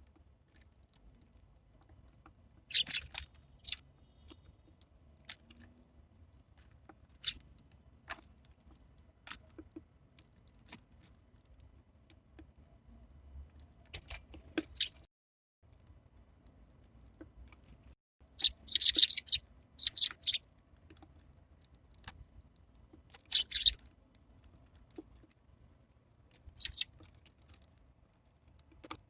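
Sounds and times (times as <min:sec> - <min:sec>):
birds pecking and cracking seeds: 0:00.0 - 0:05.8, 0:06.4 - 0:11.7, 0:15.7 - 0:25.4, 0:26.3 - 0:29.0.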